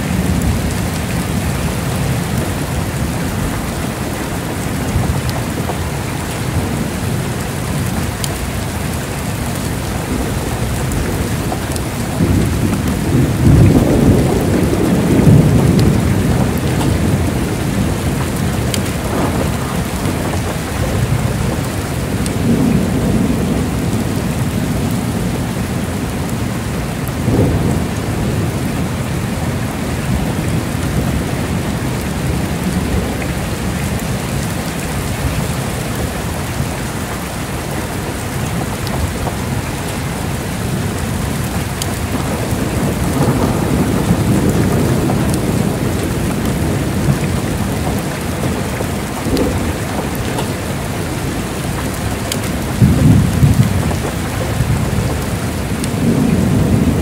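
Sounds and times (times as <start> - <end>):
heavy rain pouring: 0.0 - 57.0
low thunder rumbling: 0.0 - 57.0.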